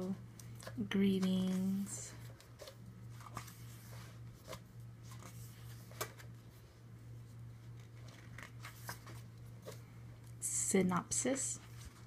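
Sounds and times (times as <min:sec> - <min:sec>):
steady low hum: 0:00.0 - 0:12.0
paper pages rustling: 0:00.4 - 0:09.9, 0:11.6 - 0:12.0.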